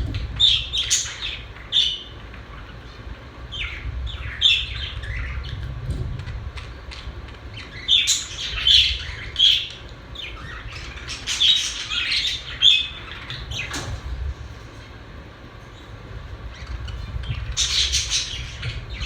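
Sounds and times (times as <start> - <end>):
budgerigars chirping and squawking: 0.0 - 15.0, 15.6 - 19.0
low room hum: 0.0 - 19.0.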